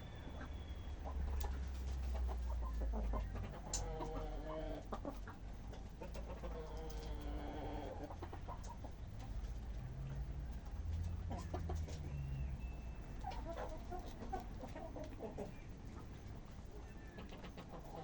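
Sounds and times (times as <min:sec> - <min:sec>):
long drawn-out chicken calls: 0:00.0 - 0:09.4, 0:11.1 - 0:18.0
chickens clucking: 0:00.0 - 0:18.0.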